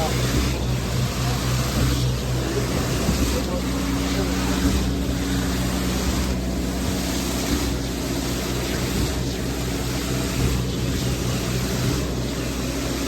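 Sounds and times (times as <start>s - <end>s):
concrete pump truck engine: 0.0s - 13.0s
pump strokes pulsing: 0.0s - 13.0s.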